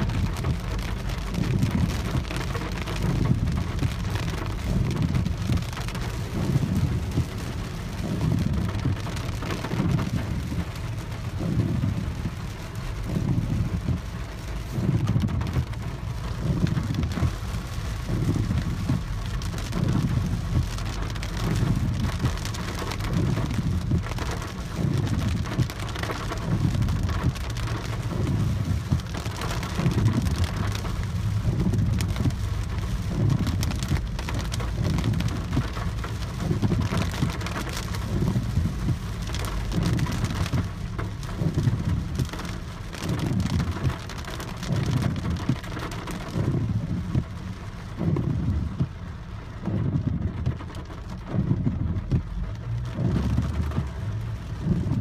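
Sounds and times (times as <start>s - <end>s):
heavy rain on car roof: 0.0s - 55.0s
low rumble: 0.0s - 55.0s.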